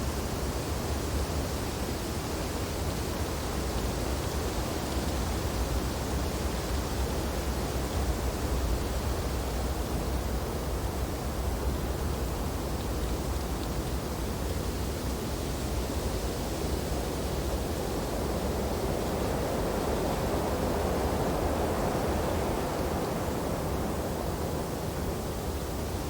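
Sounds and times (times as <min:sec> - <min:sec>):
wind through tree branches: 0:00.0 - 0:26.0.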